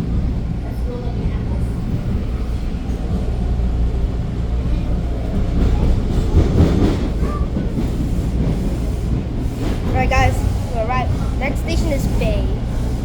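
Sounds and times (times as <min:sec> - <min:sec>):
subway train wheels rumbling: 0:00.0 - 0:13.0
train clatter: 0:00.0 - 0:13.0.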